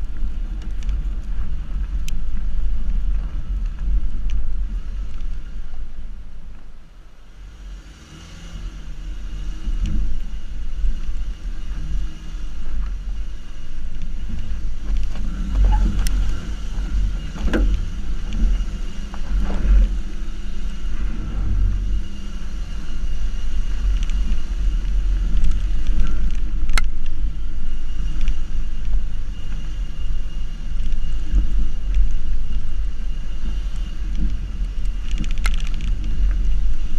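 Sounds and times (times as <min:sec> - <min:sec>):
low rumble of tyres on dirt: 0:00.0 - 0:36.9.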